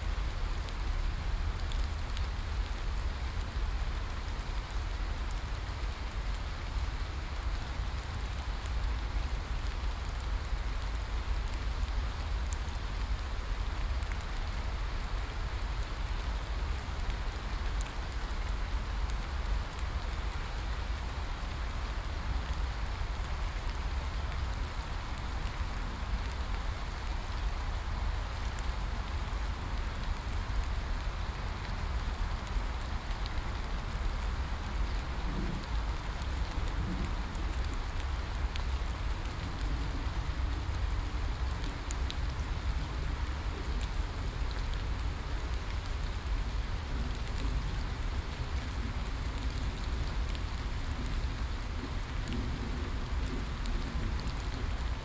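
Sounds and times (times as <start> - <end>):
heavy rain on foliage: 0.0 - 55.0
rain drops ticking: 0.0 - 55.0.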